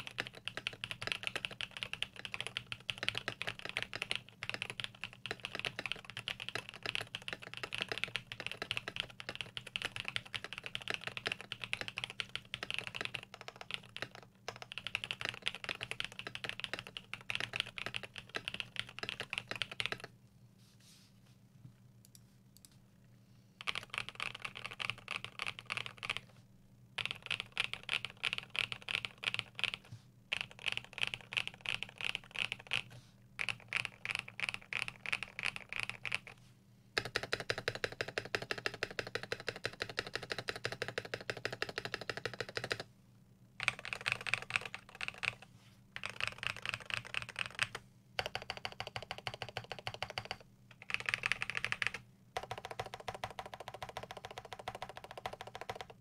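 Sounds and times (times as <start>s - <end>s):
mechanical keyboard typing: 0.0s - 20.1s, 23.6s - 26.2s, 27.0s - 36.4s, 37.0s - 42.9s, 43.6s - 45.4s, 46.0s - 56.0s.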